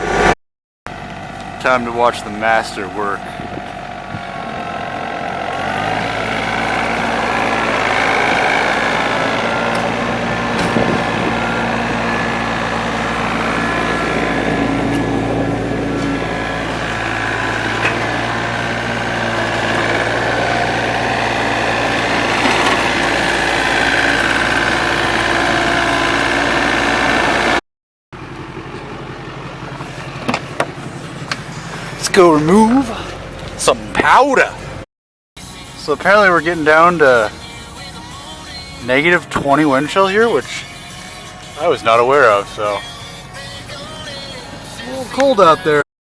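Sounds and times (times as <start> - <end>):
vehicle engine running loudly: 0.0 - 27.6, 28.2 - 34.8, 35.4 - 45.8.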